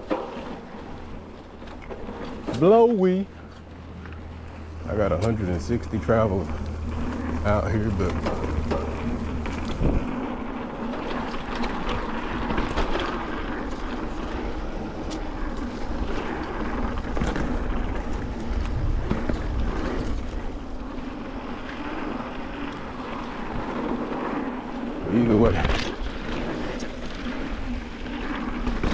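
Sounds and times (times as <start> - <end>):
bike rattling over bumps: 0.0 - 28.9
wind and tyres rushing: 0.0 - 28.9.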